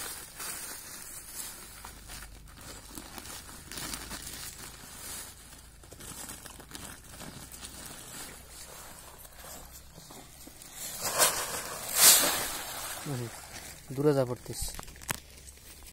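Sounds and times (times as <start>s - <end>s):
plastic sacks crinkling: 0.0s - 15.9s.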